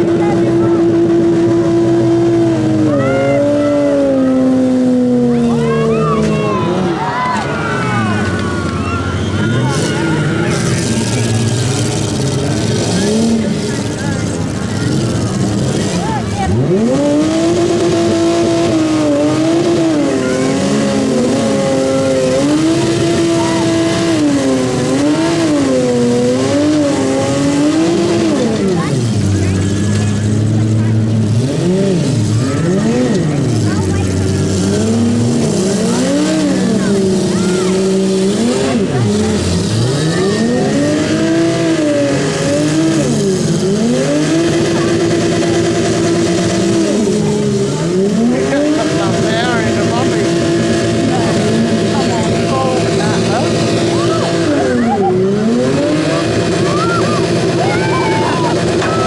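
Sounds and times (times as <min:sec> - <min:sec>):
car engines revving hard: 0:00.0 - 0:59.0.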